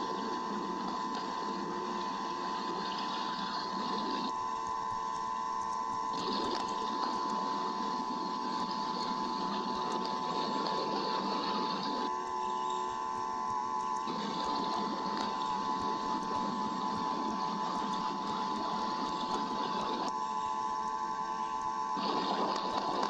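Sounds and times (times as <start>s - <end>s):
steady hiss with whining tone: 0.0s - 23.0s.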